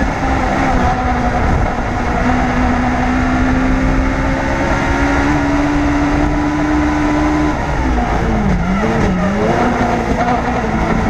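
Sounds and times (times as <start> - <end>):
race car engine high revs: 0.0 - 11.0.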